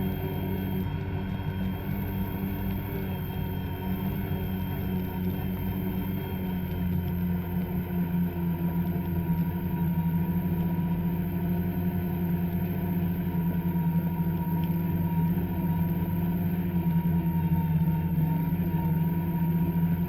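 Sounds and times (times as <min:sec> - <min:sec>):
two-stroke snowmobile engine running: 0:00.0 - 0:20.0.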